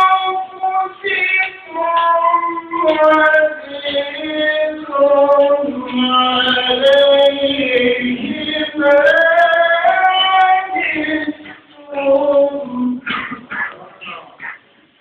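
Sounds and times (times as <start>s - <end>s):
high voice singing: 0.0s - 14.6s.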